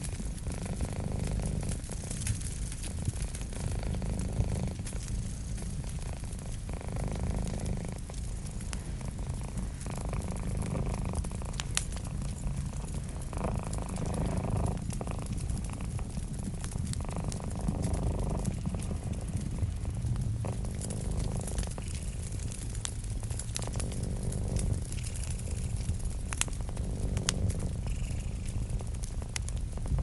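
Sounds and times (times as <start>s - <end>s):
cat purring: 0.0s - 30.0s
fireplace fire crackling: 0.0s - 30.0s.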